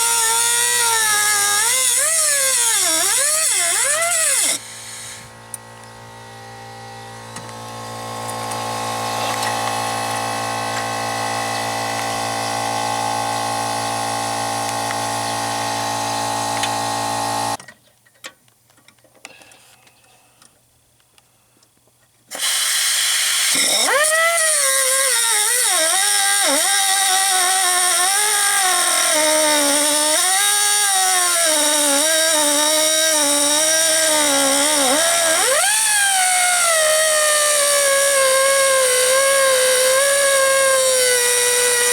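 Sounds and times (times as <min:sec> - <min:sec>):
air-powered cutting tool whining: 0:00.0 - 0:17.6, 0:22.3 - 0:41.9.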